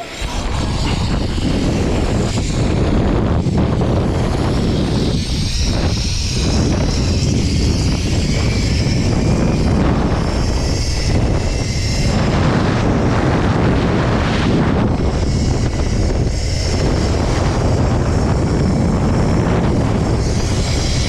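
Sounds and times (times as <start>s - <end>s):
wind rushing over microphone: 0.0s - 21.0s
zipline trolley running on cable: 0.0s - 21.0s.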